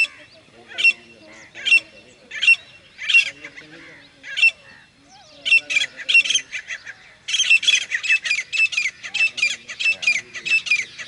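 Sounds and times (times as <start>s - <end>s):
francolins calling: 0.0s - 11.0s.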